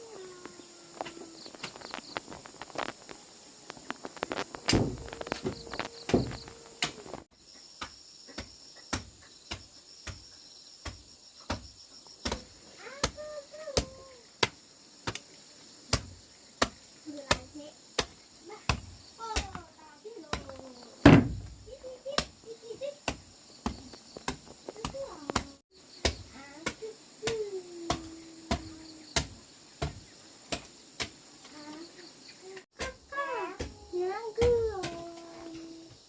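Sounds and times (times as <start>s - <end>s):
high insect chirring: 0.0s - 36.0s.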